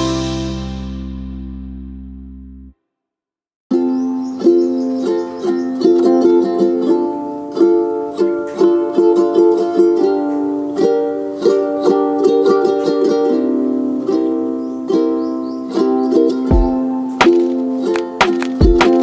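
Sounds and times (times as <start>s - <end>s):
plucked string music: 0.0s - 2.7s, 3.7s - 19.0s.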